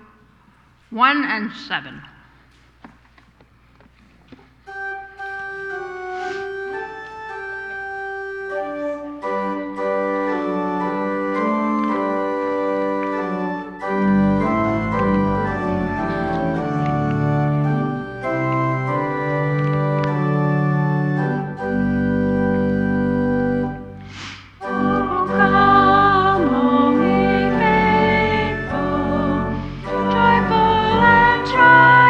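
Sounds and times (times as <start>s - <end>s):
church organ playing: 4.6s - 32.0s.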